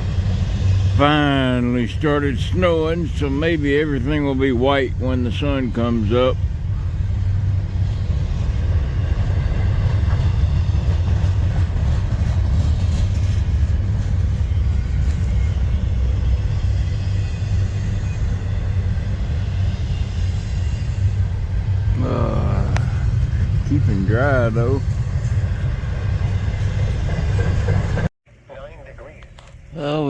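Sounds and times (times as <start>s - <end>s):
low rumble: 0.0s - 28.1s.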